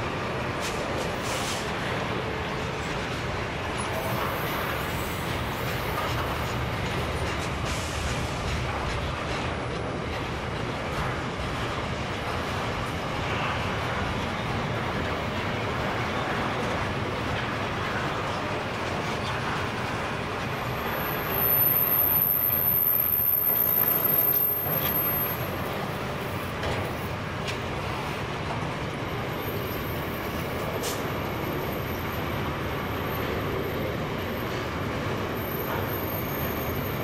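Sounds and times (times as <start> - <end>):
train wheels rolling on rails: 0.0 - 37.0.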